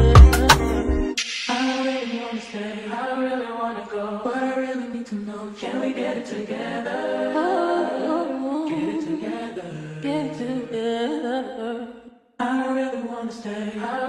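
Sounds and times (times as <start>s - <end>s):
song with layered singing voices: 0.0s - 14.0s.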